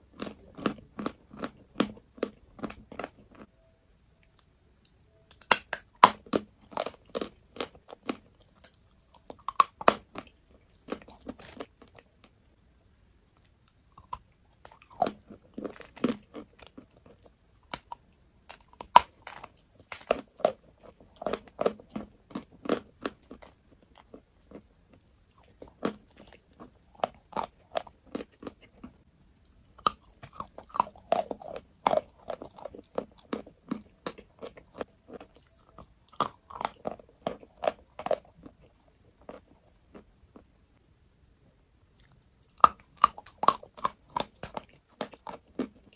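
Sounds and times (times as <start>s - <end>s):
crunching and chewing chalk: 0.0s - 3.5s, 4.2s - 12.6s, 13.3s - 45.9s.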